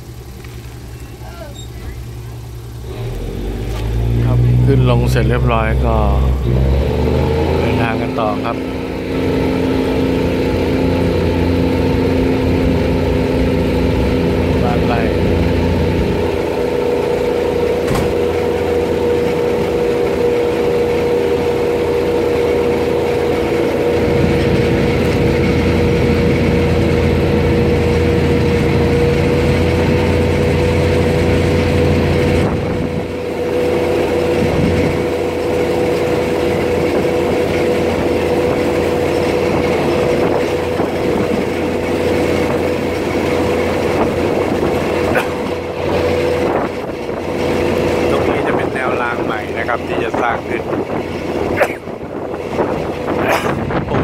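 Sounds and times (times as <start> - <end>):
diesel train engine drone: 0.0 - 54.0
train wheels rumbling on rails: 0.0 - 54.0.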